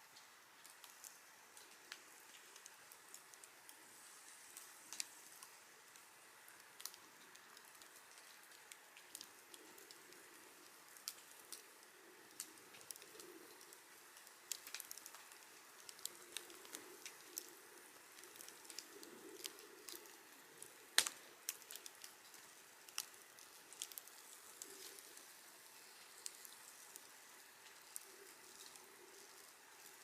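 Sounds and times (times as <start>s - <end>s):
campfire crackling and popping: 0.0s - 30.0s
soft low hiss: 0.0s - 30.0s.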